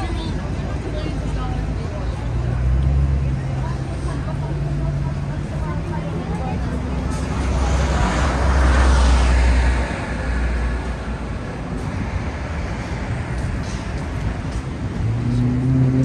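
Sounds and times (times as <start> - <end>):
traffic noise: 0.0 - 16.0
vehicle passing with deep rumble: 2.1 - 16.0.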